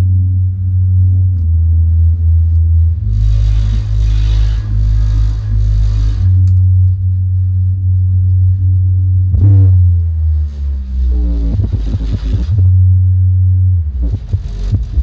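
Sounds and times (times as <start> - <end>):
deep sub-bass notes: 0.0 - 15.0.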